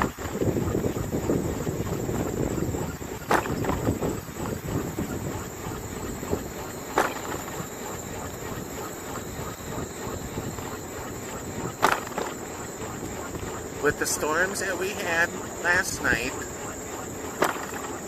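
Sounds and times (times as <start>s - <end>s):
wind rumble on microphone: 0.0s - 16.6s
high-pitched insect chorus: 0.1s - 18.0s.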